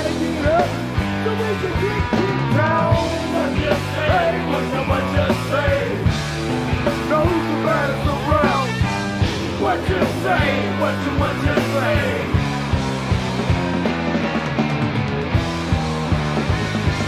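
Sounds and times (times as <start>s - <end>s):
alternative rock band playing: 0.0s - 17.0s.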